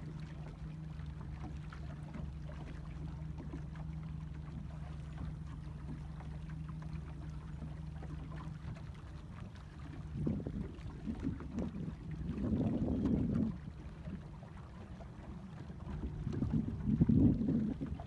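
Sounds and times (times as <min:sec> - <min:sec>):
motorboat engine idling: 0:00.0 - 0:18.0
water noise: 0:00.0 - 0:18.0
wind: 0:00.0 - 0:18.0.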